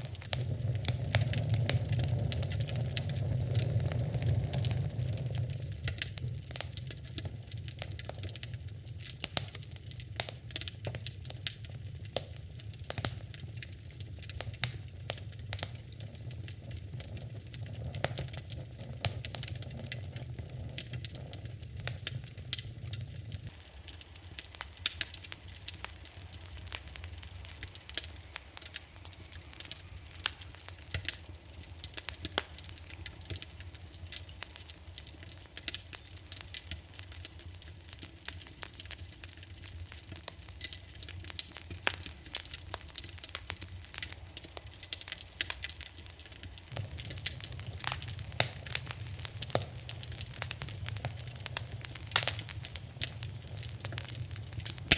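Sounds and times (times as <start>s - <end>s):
low rumble of flames: 0.0s - 54.9s
wood fire crackling and popping: 0.0s - 54.9s.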